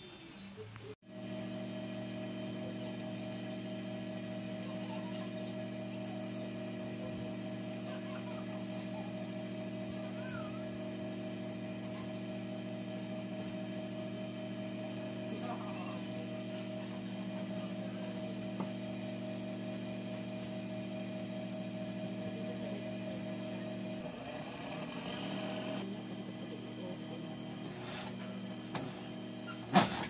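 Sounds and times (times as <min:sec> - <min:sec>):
sewing machine motor humming: 0:01.2 - 0:30.0.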